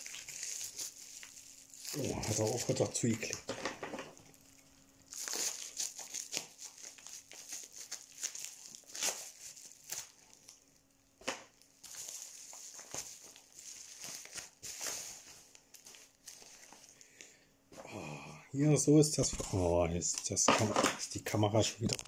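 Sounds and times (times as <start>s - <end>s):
packaging crinkling and rustling: 0.0s - 17.0s, 21.4s - 22.0s.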